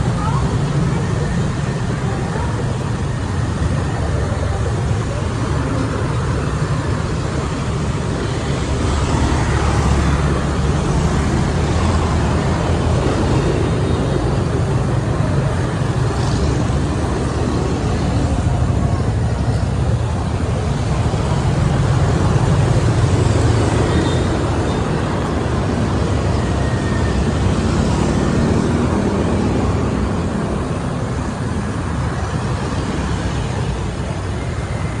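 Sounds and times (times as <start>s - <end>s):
scooters and cars on road: 0.0s - 35.0s.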